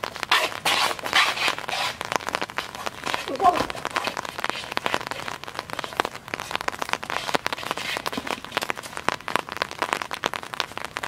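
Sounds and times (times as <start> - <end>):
raindrops ticking: 0.0 - 11.0.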